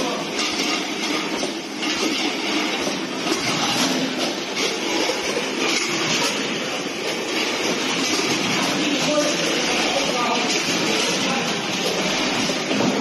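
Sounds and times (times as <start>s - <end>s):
conveyors running: 0.0s - 13.0s
rotary can-filling turntable: 0.0s - 13.0s
weigher working: 0.0s - 13.0s.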